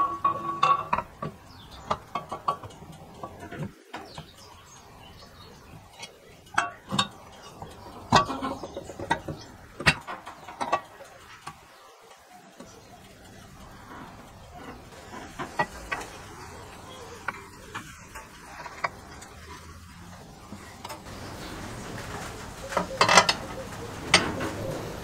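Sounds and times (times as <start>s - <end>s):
metal parts clinking and knocking: 0.0s - 21.1s, 22.7s - 24.6s.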